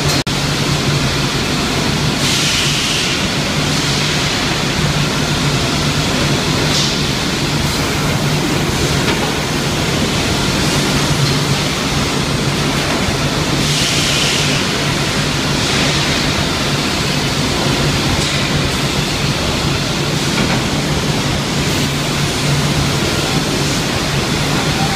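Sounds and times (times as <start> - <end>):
air rushing through pipes: 0.0 - 24.9.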